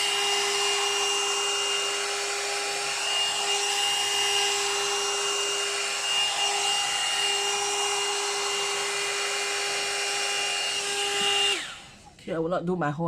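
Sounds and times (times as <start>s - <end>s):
hair dryer running: 0.0s - 12.2s.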